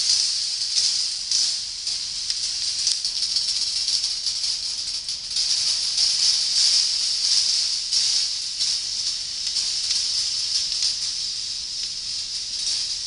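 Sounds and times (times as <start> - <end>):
steel balls rolling on wire: 0.0 - 13.0.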